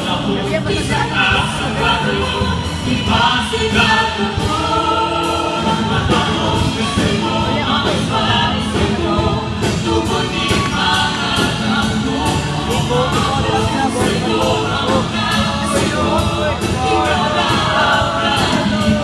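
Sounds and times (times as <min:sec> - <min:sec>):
choir singing: 0:00.0 - 0:19.0
live instrumental music: 0:00.0 - 0:19.0.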